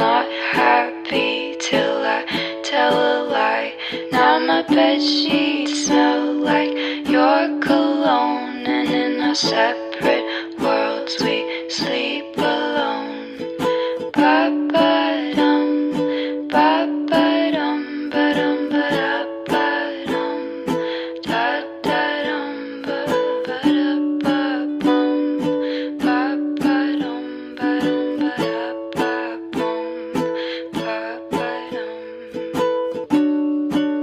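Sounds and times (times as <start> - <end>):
strummed plucked strings: 0.0 - 34.0.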